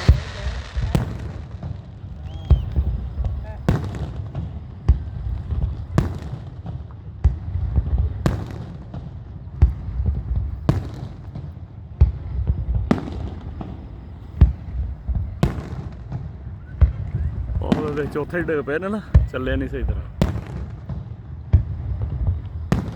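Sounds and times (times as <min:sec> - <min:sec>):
fireworks bangs: 0:00.0 - 0:22.9.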